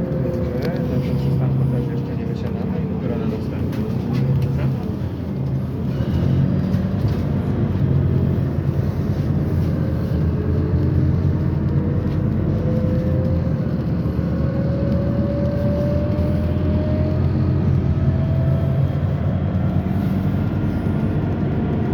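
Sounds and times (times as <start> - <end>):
bus engine and road hum: 0.0 - 21.9.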